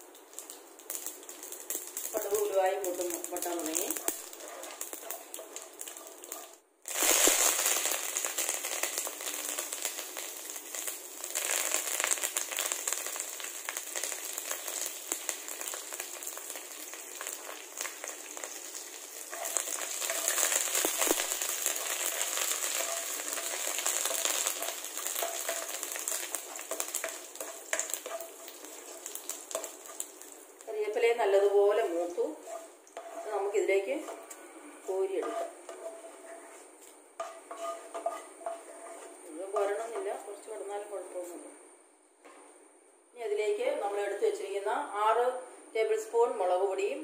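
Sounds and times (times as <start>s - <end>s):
seeds sizzling in hot oil: 0.0s - 41.5s.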